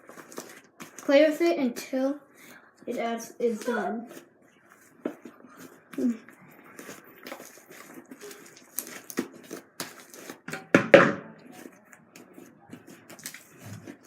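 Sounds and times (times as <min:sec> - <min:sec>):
slime being kneaded: 0:00.0 - 0:02.1, 0:02.9 - 0:10.7, 0:11.4 - 0:14.0.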